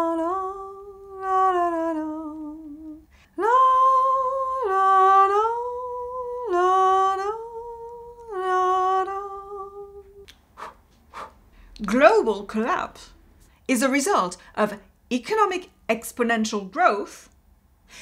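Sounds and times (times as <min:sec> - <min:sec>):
woman singing wordless tune: 0:00.0 - 0:10.3, 0:11.8 - 0:17.3.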